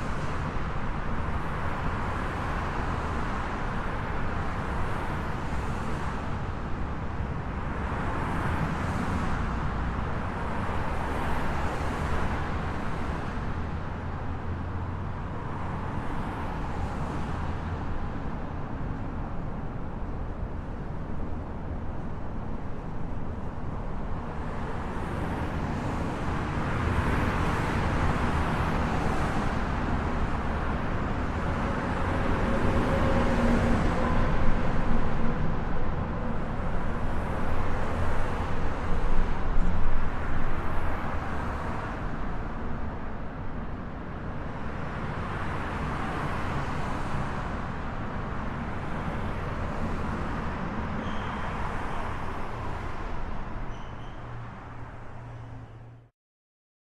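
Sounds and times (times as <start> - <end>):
highway traffic noise: 0.0 - 56.1.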